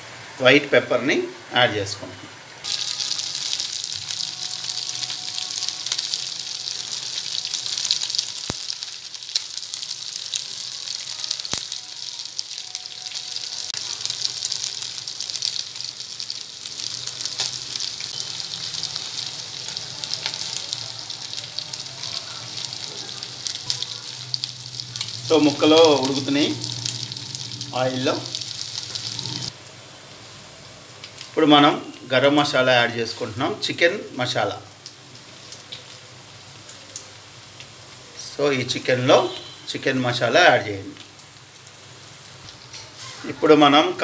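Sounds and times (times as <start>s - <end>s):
chicken sizzling in oil: 2.6s - 44.0s.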